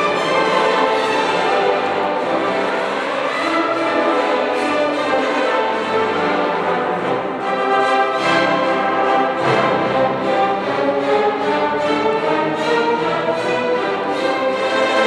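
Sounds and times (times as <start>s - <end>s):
brass: 0.0s - 15.0s
string section: 0.0s - 15.0s.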